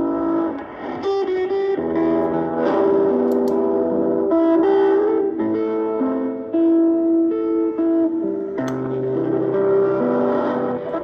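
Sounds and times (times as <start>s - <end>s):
guitar music over radio: 0.0s - 11.0s.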